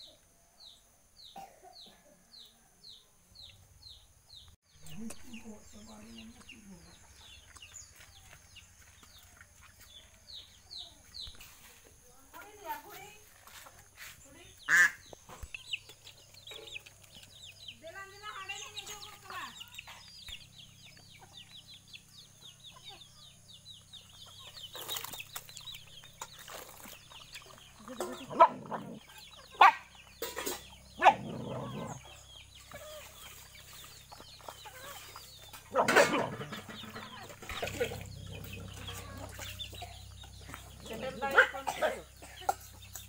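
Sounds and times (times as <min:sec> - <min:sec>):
chickens clucking and cheeping: 0:00.0 - 0:43.0.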